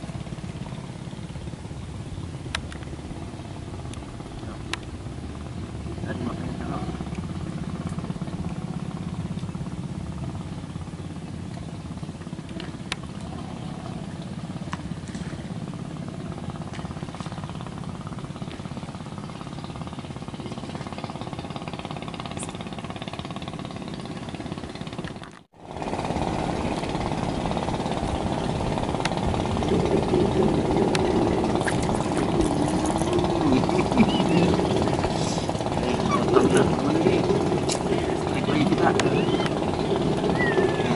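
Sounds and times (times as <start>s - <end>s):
distant engine rumble: 0.0s - 40.9s.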